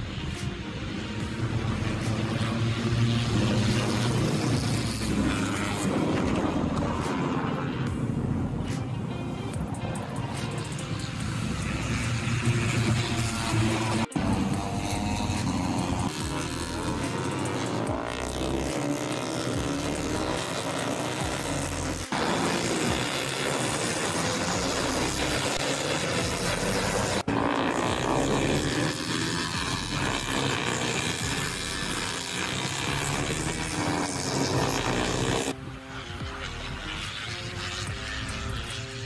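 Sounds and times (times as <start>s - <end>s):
racing motorcycles passing: 0.0s - 39.0s.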